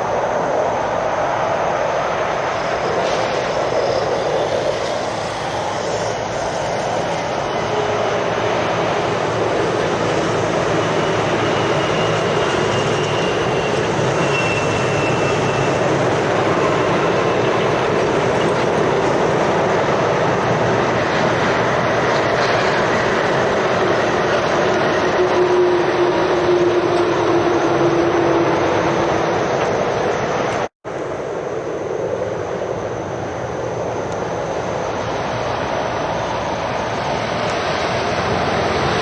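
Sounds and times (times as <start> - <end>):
lorries passing: 0.0 - 39.0
rumble of tyres and diesel engines: 0.0 - 39.0.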